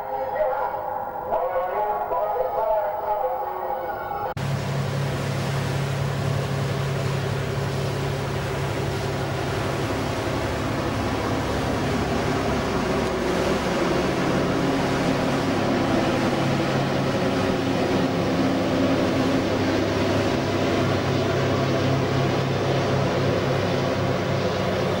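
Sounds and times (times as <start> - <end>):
diesel engines droning: 0.0 - 25.0
low hum tones: 0.0 - 25.0
rush of water and wind: 4.4 - 25.0.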